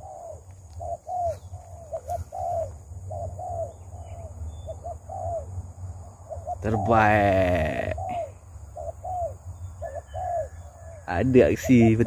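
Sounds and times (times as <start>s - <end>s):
dove cooing: 0.0s - 5.6s, 6.2s - 12.0s.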